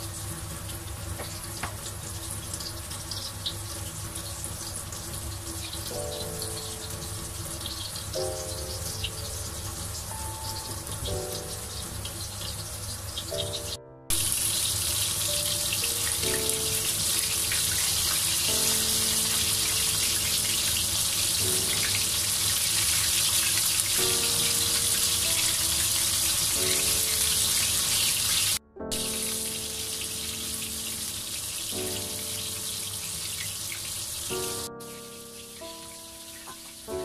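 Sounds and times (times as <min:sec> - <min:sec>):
background music with held notes: 0:00.0 - 0:37.0
chicken deep-frying in oil: 0:00.0 - 0:37.0.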